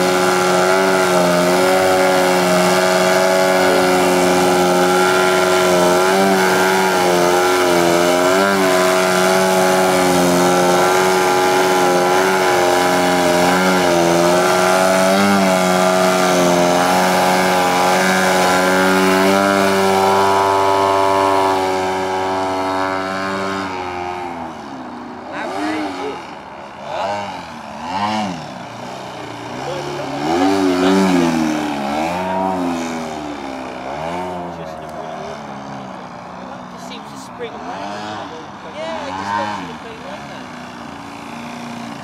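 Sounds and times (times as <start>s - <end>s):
model plane engine and propeller: 0.0s - 42.0s.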